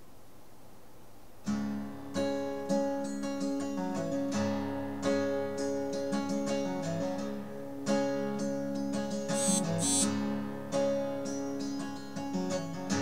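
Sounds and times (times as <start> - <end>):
acoustic guitar strumming and picking: 1.5 - 13.0.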